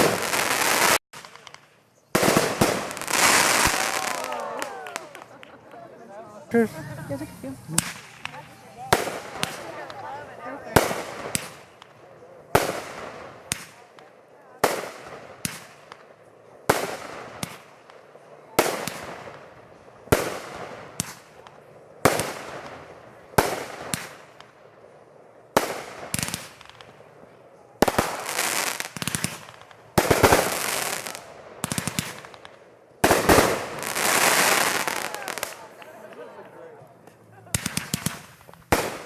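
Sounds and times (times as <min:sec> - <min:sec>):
firework bangs: 0:00.0 - 0:05.6, 0:07.7 - 0:35.9, 0:37.4 - 0:39.0
fireworks crackling pops: 0:00.0 - 0:05.7, 0:07.1 - 0:36.2, 0:37.0 - 0:39.0.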